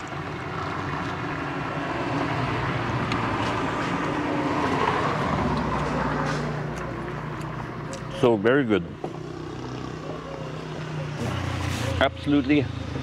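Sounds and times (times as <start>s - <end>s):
vehicle passing on street: 0.0s - 13.0s.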